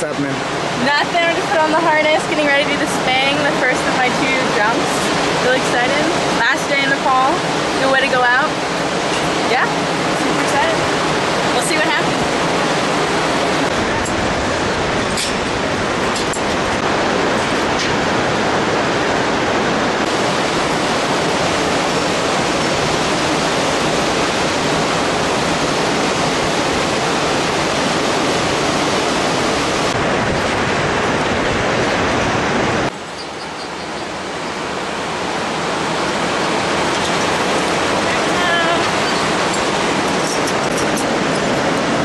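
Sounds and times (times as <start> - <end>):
whitewater river rushing: 0.0 - 42.0.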